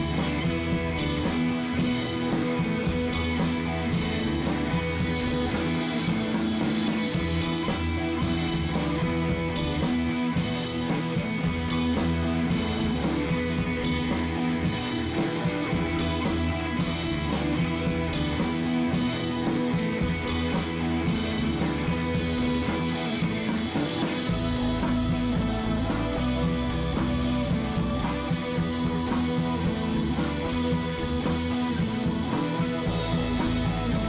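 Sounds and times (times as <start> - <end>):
instrumental guitar music with drums: 0.0 - 34.0.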